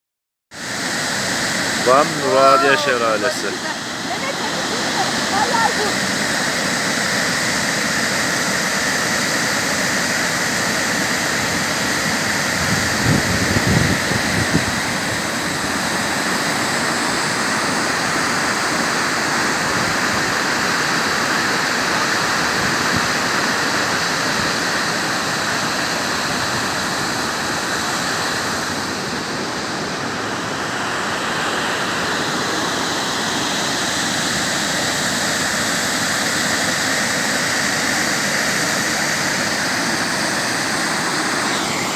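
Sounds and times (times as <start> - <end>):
waterfall roaring: 0.6 - 41.9.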